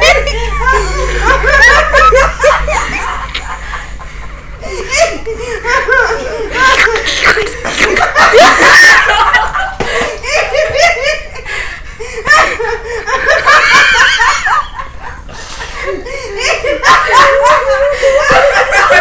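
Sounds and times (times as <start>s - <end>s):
woman laughing uncontrollably: 0.0s - 11.5s, 12.1s - 19.0s
people laughing along: 0.0s - 19.0s.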